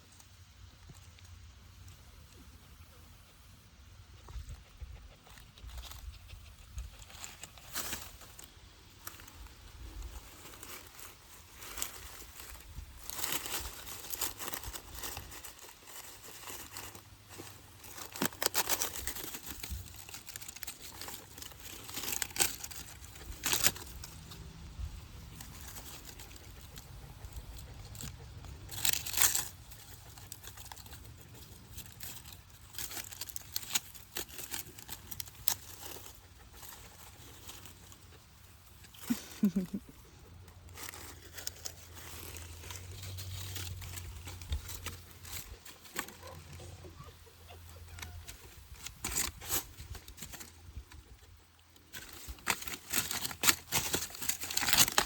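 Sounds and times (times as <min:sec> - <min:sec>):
dry leaves rustling and crunching: 0:04.2 - 0:55.0.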